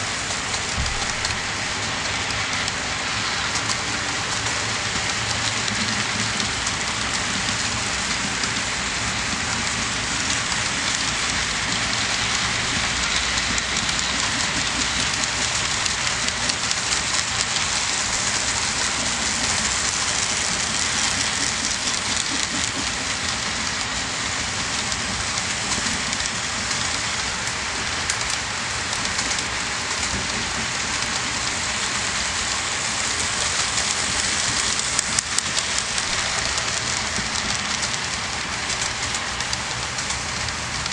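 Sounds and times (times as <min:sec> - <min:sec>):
model train wheels rattling: 0:00.0 - 0:40.9.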